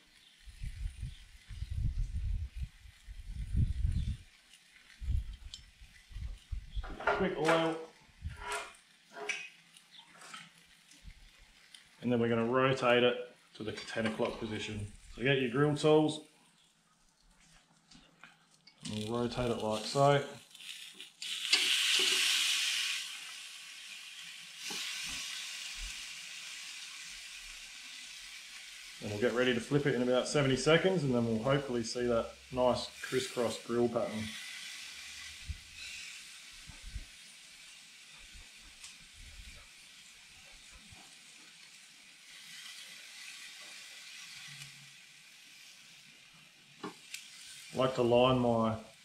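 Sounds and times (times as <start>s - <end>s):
steak sizzling on grill: 0.0s - 49.0s.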